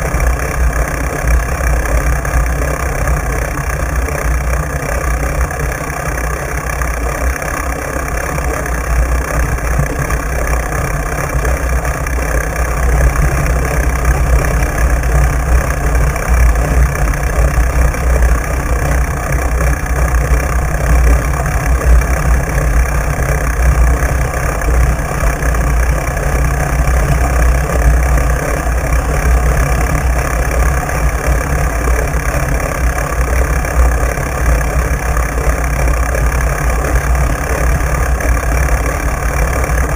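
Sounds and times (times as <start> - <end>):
bike tyre rolling over wet sand: 0.0 - 39.9.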